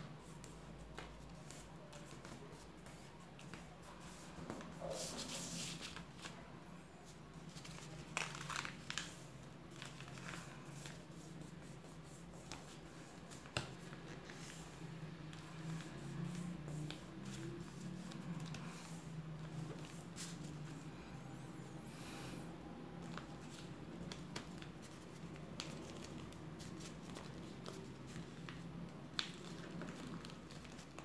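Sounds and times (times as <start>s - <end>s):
paper folding rustles: 0.4s - 21.1s, 23.0s - 31.0s.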